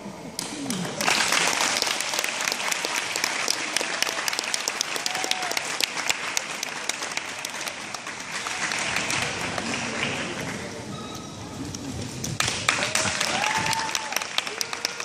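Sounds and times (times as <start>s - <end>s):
audience applauding: 0.4s - 10.8s, 12.2s - 15.0s.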